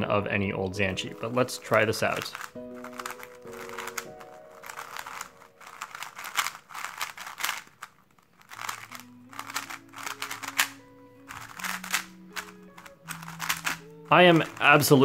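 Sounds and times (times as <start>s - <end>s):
puzzle cube clacking: 1.0s - 15.0s.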